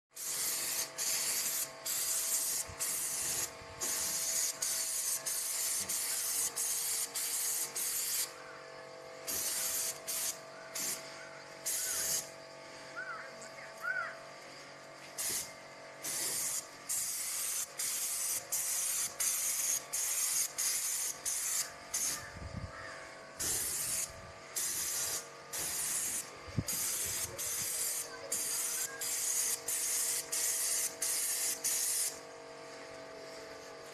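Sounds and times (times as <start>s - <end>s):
paint sprayer gun hissing in bursts: 0.1s - 8.6s, 9.2s - 12.4s, 15.0s - 32.8s
steady hum: 0.2s - 33.9s.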